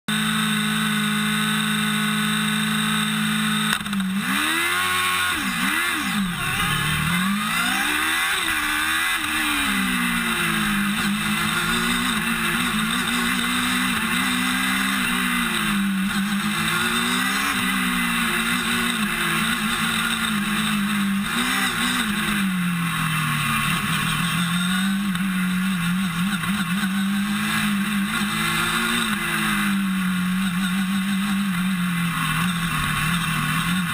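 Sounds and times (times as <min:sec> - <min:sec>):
race car engine revving: 0:00.1 - 0:33.9.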